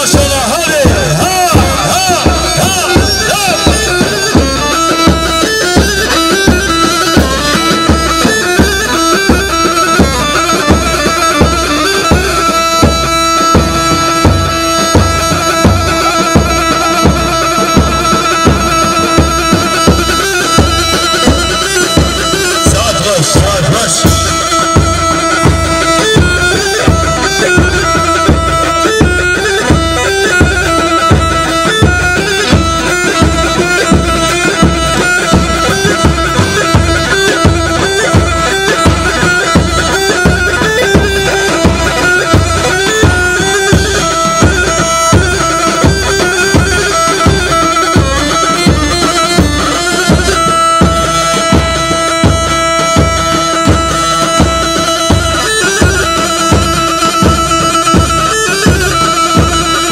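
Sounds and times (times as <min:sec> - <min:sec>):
bass drum beat: 0:00.0 - 0:55.2
shrill reed pipe melody: 0:00.0 - 0:59.9.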